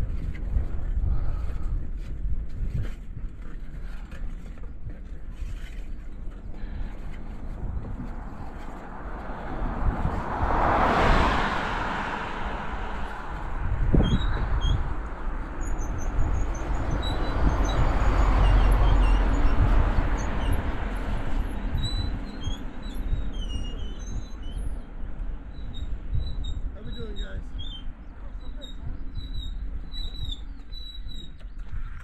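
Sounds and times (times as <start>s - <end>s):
road and tyre noise: 0.0s - 32.0s
wind buffeting microphone: 0.0s - 32.0s.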